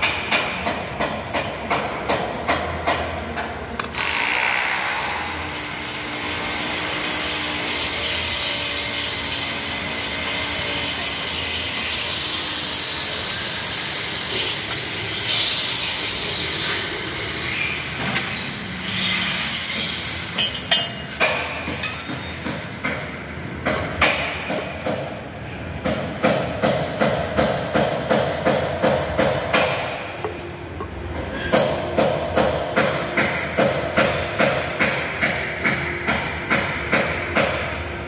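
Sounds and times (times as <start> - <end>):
steady mechanical noise: 0.0 - 38.0.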